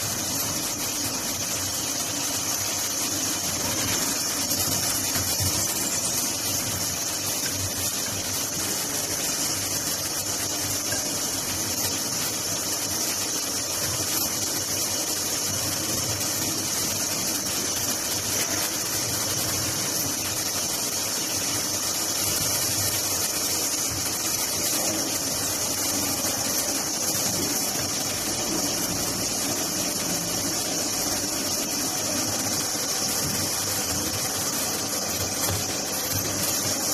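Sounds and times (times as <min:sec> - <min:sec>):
machine running with high hiss: 0:00.0 - 0:36.9.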